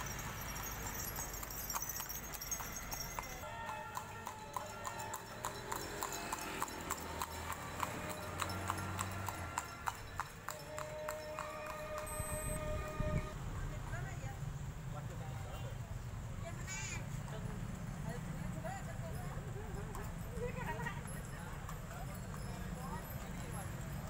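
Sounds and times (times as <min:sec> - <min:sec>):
horse hooves on asphalt: 0:00.0 - 0:13.3, 0:17.1 - 0:24.0.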